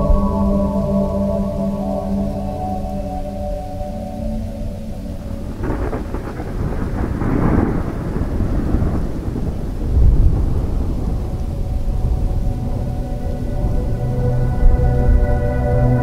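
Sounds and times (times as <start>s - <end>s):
rain: 0.0s - 16.0s
soft ambient music: 0.0s - 16.0s
thunder rumbling: 0.0s - 16.0s.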